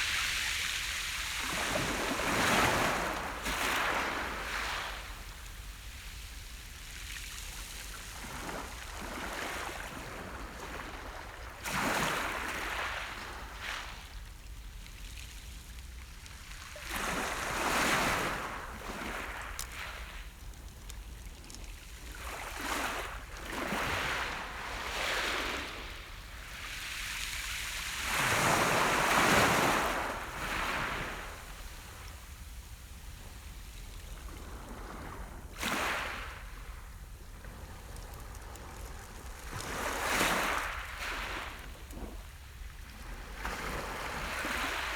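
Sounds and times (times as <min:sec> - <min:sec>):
waves breaking on shore: 0:00.0 - 0:14.4, 0:15.2 - 0:44.9.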